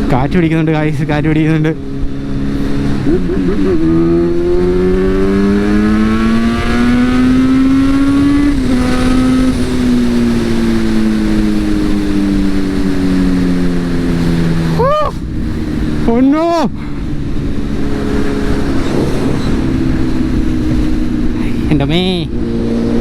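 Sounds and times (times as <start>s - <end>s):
motorcycle engine revving: 0.0s - 23.0s
wind rushing on microphone: 0.0s - 23.0s.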